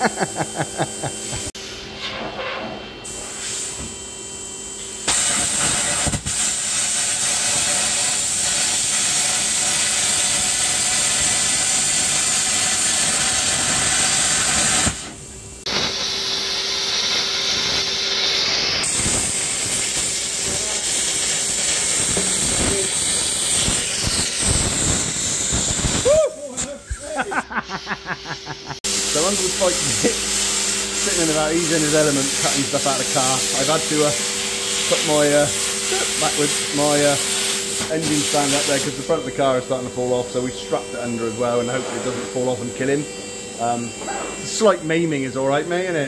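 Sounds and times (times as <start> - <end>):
plasma cutter hissing: 3.0 - 3.8, 4.8 - 46.0.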